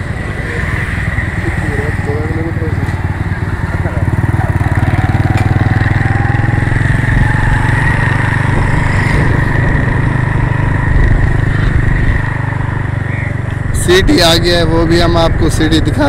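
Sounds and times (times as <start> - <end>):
small motorcycle engine running: 0.0 - 16.0.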